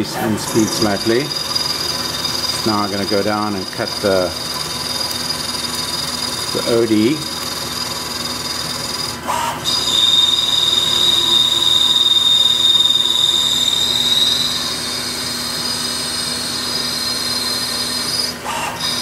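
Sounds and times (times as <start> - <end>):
lathe cutting whine: 0.0 - 19.0.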